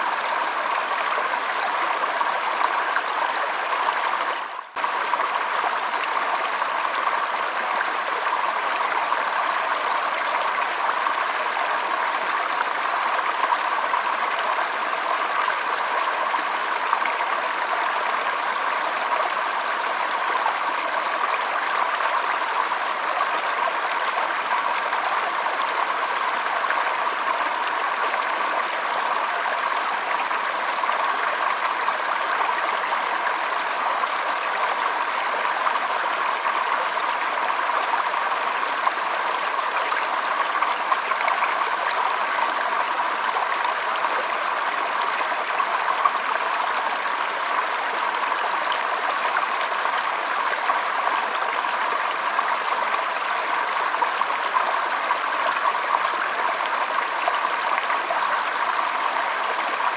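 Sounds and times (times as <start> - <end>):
stream babbling: 0.0 - 59.9.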